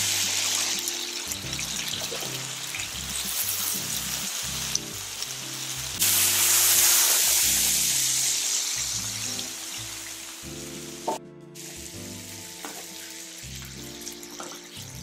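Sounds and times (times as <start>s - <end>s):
background music with bass: 0.0s - 15.0s
chicken sizzling in pan: 0.0s - 15.0s.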